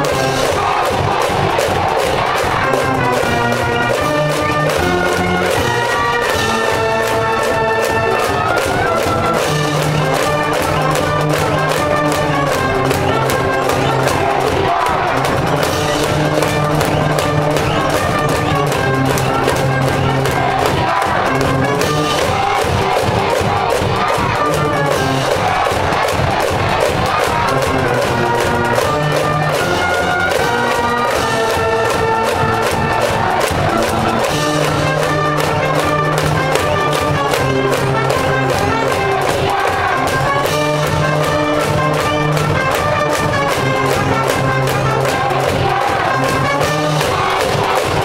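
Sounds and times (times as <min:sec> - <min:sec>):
brass band playing: 0:00.0 - 0:48.0.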